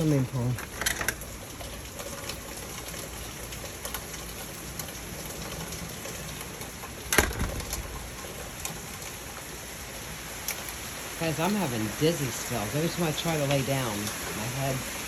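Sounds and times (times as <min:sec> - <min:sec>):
rain pattering: 0:00.0 - 0:15.0
water drips and ticks: 0:00.0 - 0:15.0.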